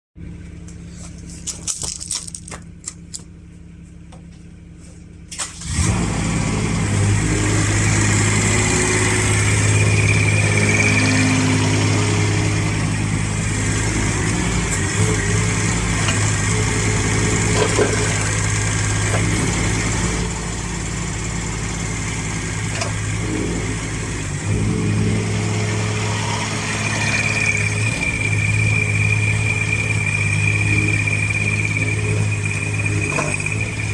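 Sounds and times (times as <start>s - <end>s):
excavator engine running: 0.2s - 33.9s.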